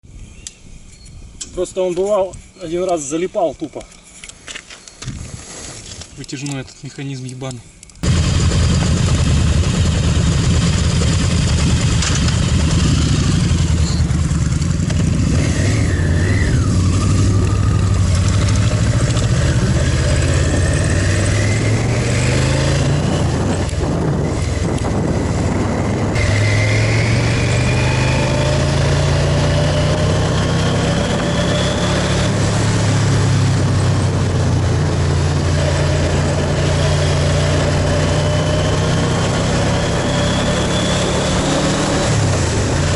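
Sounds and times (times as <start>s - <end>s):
motorcycle engine accelerating: 8.0s - 42.9s.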